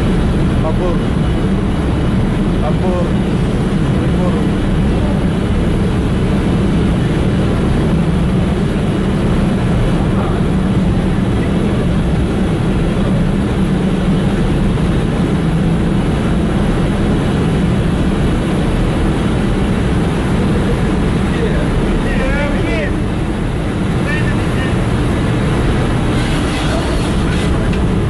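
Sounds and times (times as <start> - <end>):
engine room machinery drone: 0.0 - 28.0.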